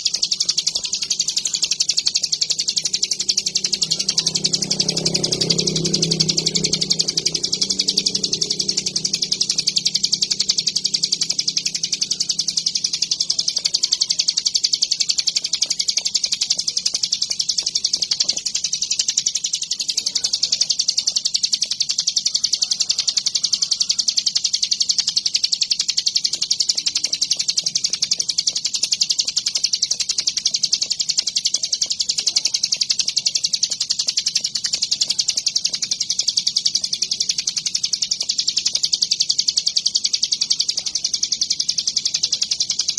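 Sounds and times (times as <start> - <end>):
bird singing chattering song: 0.0 - 42.9.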